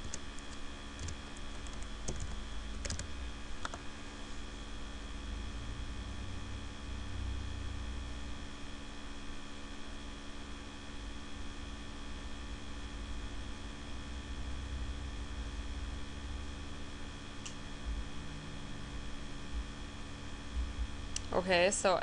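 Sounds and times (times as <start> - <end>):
cooler fan humming: 0.0 - 22.0.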